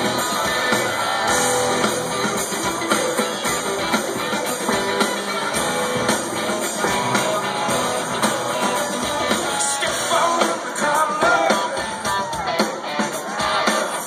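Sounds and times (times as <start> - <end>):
drum kit steady beat: 0.0 - 14.0
strummed guitars: 0.0 - 14.0.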